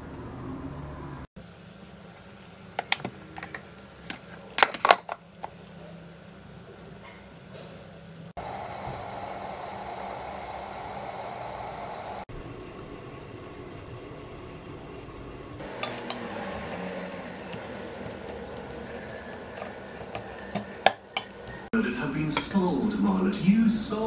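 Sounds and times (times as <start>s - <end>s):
egg cooker steaming hiss and hum: 1.4s - 21.7s.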